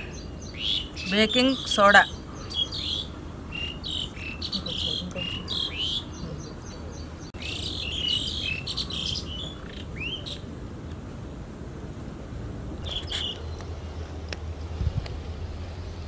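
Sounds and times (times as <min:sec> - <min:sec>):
birds chirping: 0:00.0 - 0:11.4, 0:12.8 - 0:14.4
low steady rumble: 0:00.0 - 0:16.0.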